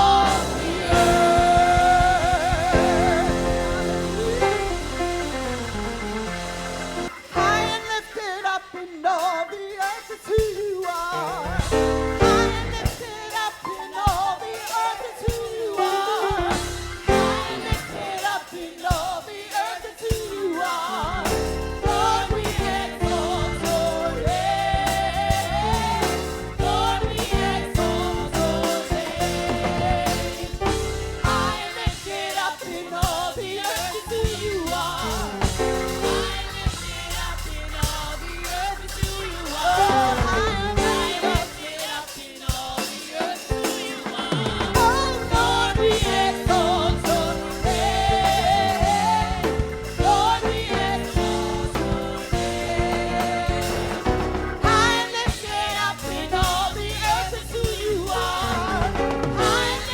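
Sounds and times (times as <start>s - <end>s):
band with bass and drums: 0.0s - 8.6s, 9.8s - 59.9s
gospel singing voices: 0.0s - 59.9s.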